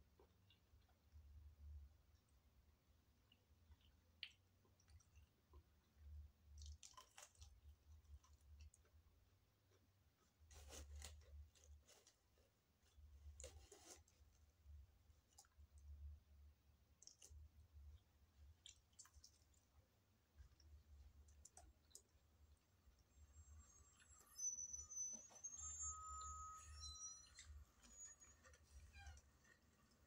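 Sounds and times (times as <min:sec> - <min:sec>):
faint chewing of crispy food: 0:00.0 - 0:24.3, 0:27.3 - 0:30.0.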